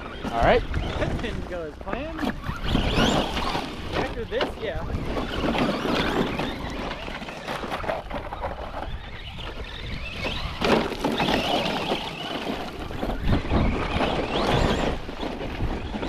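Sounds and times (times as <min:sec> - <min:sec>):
toy truck motor revving: 0:00.0 - 0:16.0
wind noise on microphone: 0:00.0 - 0:16.0.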